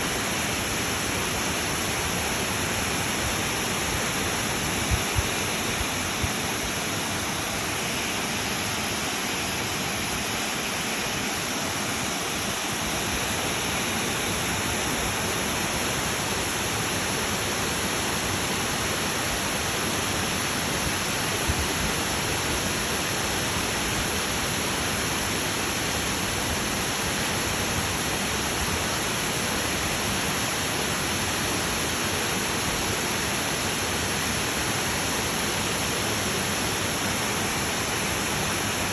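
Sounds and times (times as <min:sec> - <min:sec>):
rushing mountain water: 0:00.0 - 0:38.9.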